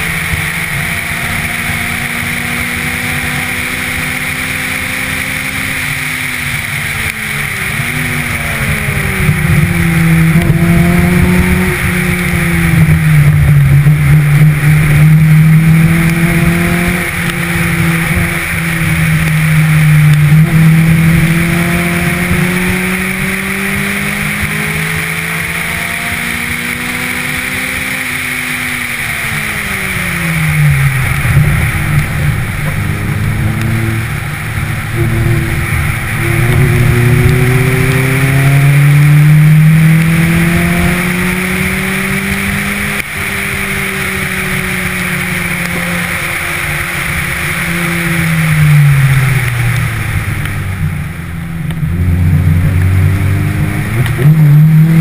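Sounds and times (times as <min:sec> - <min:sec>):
car engine accelerating: 0:00.0 - 0:55.0
wind and tyre noise: 0:00.0 - 0:55.0.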